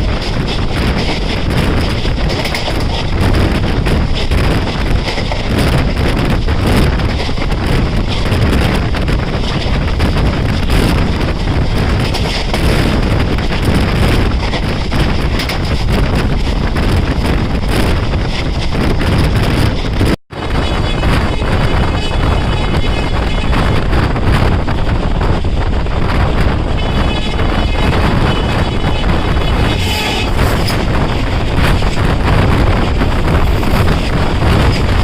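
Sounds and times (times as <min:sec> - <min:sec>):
train wheels rumbling on track: 0:00.0 - 0:35.0
wind buffeting microphone: 0:00.0 - 0:35.0.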